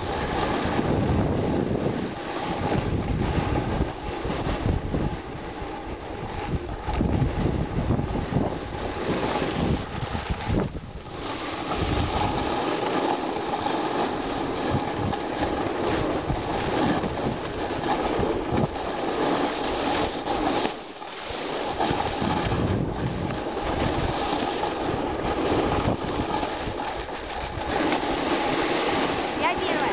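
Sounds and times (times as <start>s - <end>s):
skis sliding on snow: 0.0s - 29.9s
wind buffeting microphone: 0.0s - 29.9s.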